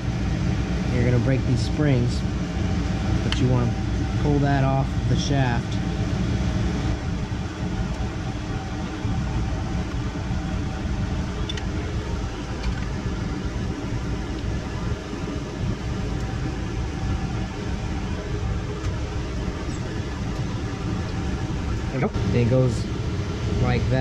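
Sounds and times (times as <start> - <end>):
mechanical hum of equipment: 0.0 - 24.0.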